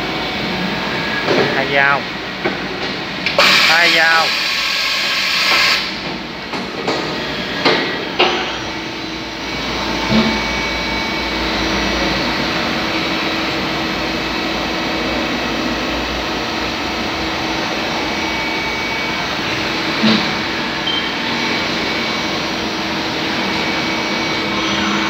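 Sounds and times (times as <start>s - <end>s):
milling machine whirring hum: 0.0s - 25.0s.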